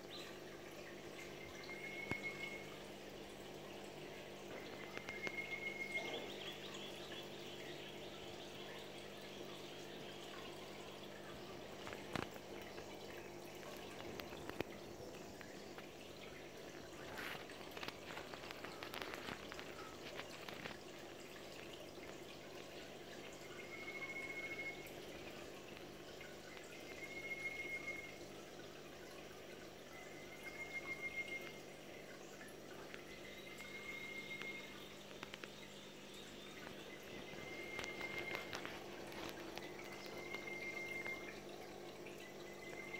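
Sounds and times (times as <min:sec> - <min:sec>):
aquarium filter humming: 0:00.0 - 0:42.9
water trickling: 0:00.0 - 0:42.9.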